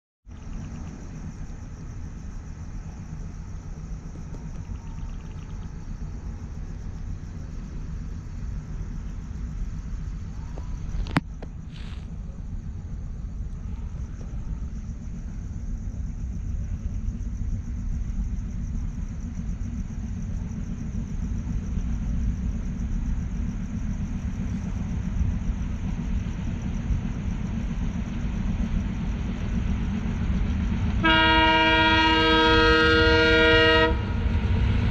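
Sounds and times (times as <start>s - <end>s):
train rumbling on track: 0.3s - 34.9s.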